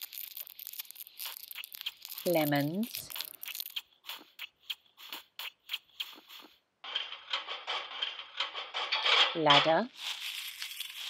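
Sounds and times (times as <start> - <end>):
crinkly rustling: 0.0 - 11.0.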